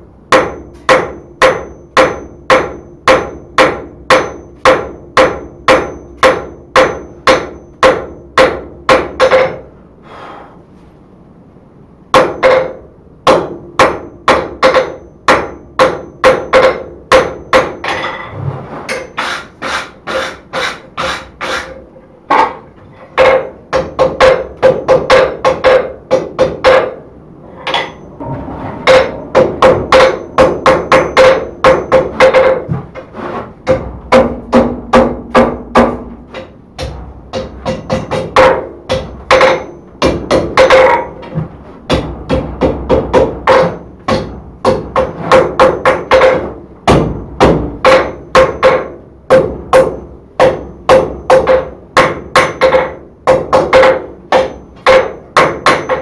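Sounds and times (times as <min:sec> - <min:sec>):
hammer blows ringing on anvil: 0:00.3 - 0:09.7, 0:12.1 - 0:18.3, 0:23.2 - 0:32.7, 0:33.6 - 0:41.3, 0:41.9 - 0:56.0.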